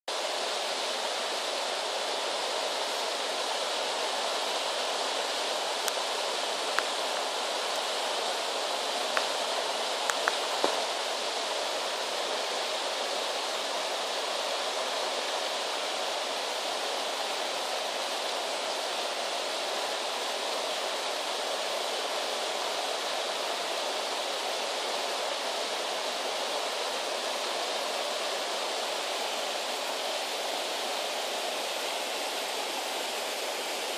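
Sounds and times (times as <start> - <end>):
water rushing over a weir: 0.1 - 33.9.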